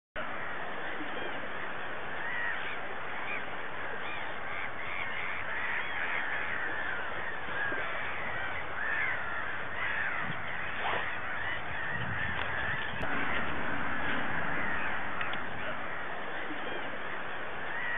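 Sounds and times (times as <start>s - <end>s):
flock of birds calling: 0.2s - 17.9s.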